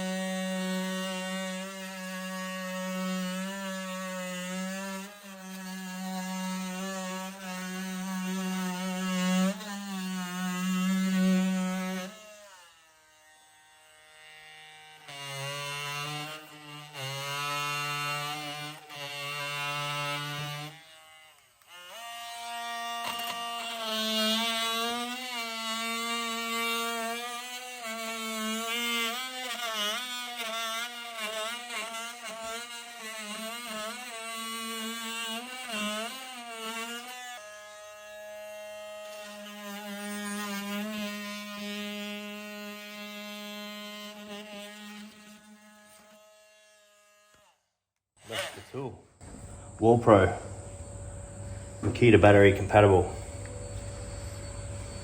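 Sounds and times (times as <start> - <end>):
oscillating multi-tool buzzing whine: 0.0 - 47.6, 48.2 - 55.0.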